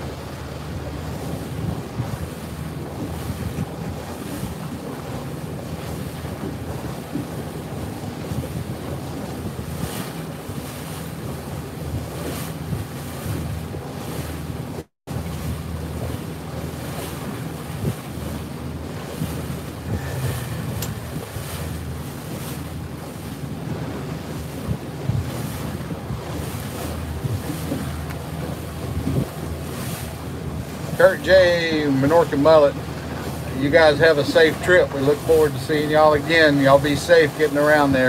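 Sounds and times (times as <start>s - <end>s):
boat motor humming: 0.0s - 38.0s
water rushing around hull: 0.0s - 38.0s
wind buffeting microphone: 0.0s - 38.0s.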